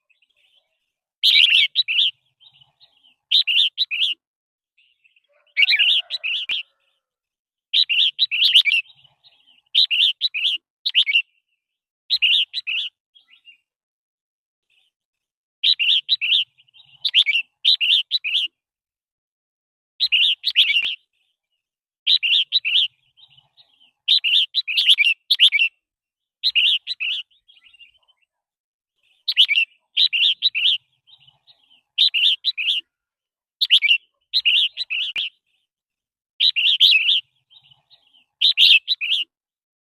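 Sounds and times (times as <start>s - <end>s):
bird chirping: 0.0s - 4.2s, 4.8s - 7.1s, 7.7s - 13.7s, 15.6s - 18.6s, 20.0s - 25.8s, 26.4s - 28.4s, 29.0s - 33.0s, 33.6s - 35.7s, 36.4s - 39.4s.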